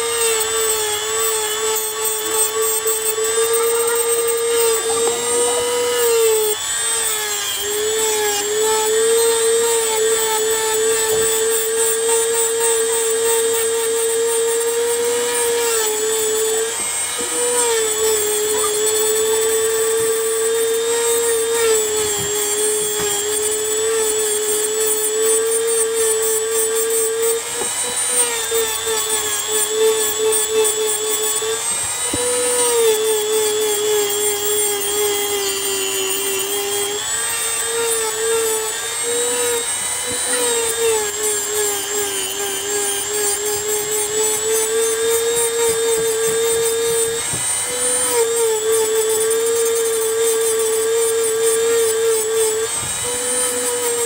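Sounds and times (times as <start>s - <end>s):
rotary grinder whining: 0.0s - 54.0s.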